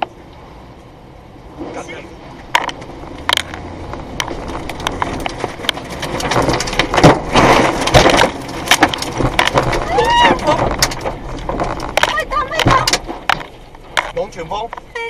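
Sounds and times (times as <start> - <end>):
wind rushing around car: 0.0 - 15.0
rain and debris hitting car: 1.4 - 15.0.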